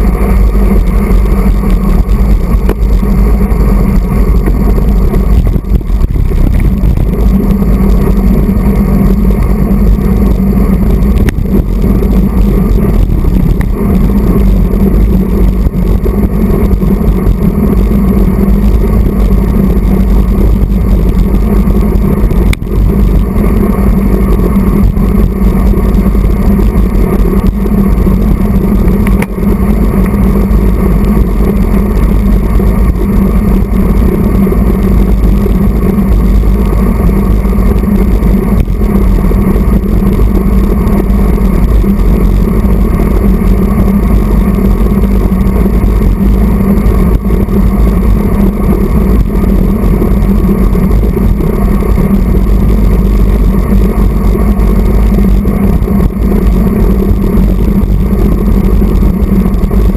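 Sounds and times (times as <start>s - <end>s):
bike tyres on asphalt: 0.0s - 59.9s
wind rumble on microphone: 0.0s - 59.9s.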